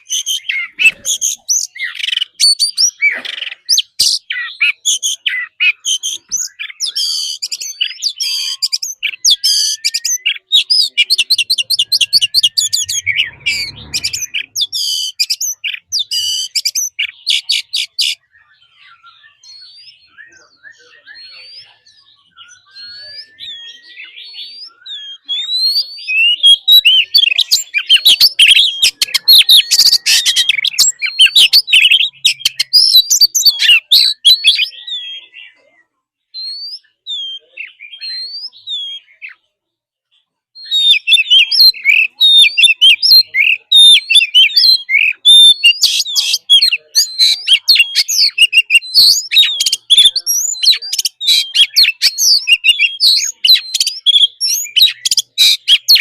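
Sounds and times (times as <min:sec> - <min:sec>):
bird singing whistled song: 0:00.0 - 0:35.6, 0:36.3 - 0:39.4, 0:40.6 - 0:56.0.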